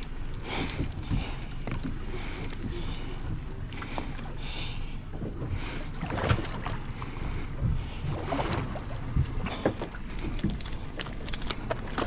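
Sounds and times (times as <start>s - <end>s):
water sloshing against boat: 0.0s - 12.0s.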